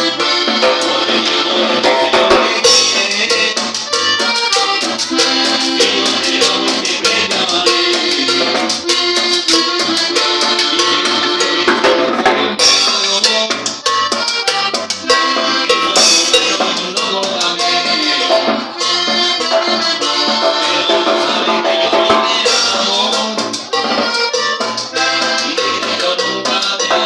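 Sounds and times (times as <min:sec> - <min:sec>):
accordion: 0:00.0 - 0:27.0
drum kit beat: 0:00.0 - 0:27.0.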